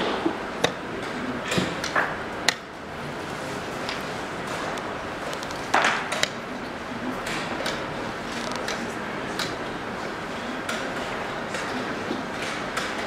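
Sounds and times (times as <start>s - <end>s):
busy hall room noise: 0.0s - 13.0s.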